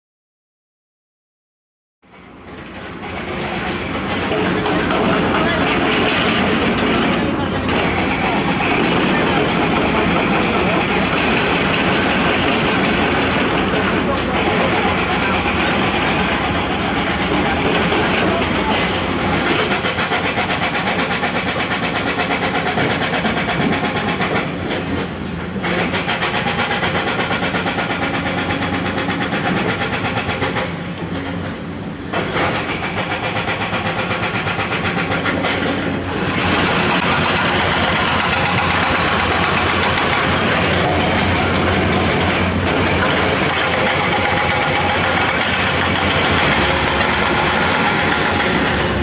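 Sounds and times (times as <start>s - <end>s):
excavator diesel engines chugging: 2.1s - 49.0s.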